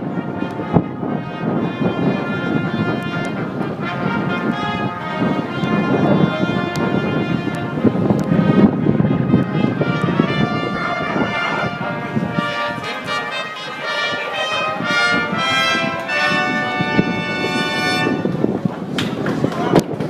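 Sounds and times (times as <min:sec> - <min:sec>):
brass fanfare over loudspeakers: 0:00.0 - 0:18.6
wind rumble on microphone: 0:00.0 - 0:20.0.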